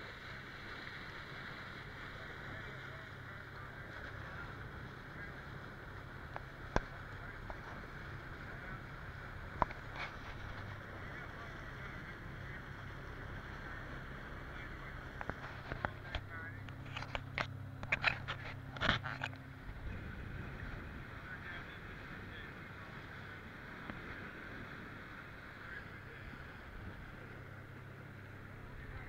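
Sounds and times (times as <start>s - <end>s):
boat engine running: 0.0s - 29.0s
water and wind rushing: 0.0s - 29.0s.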